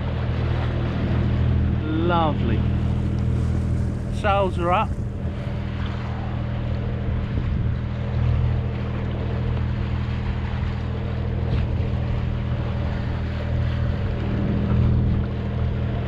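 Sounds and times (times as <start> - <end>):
boat engine running: 0.0 - 16.0
wind and water hiss: 0.0 - 16.0.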